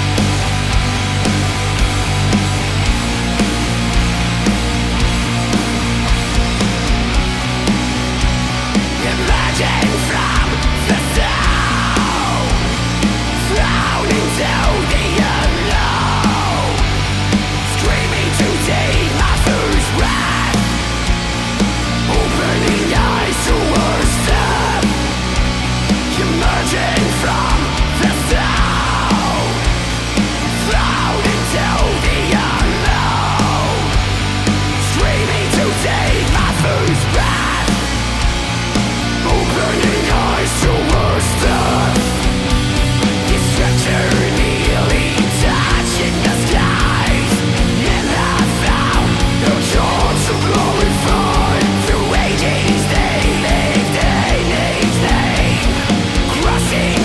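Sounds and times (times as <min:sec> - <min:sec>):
black metal music: 0:00.0 - 0:57.0
distorted guitars: 0:00.0 - 0:57.0
steady drumbeat: 0:00.0 - 0:57.0.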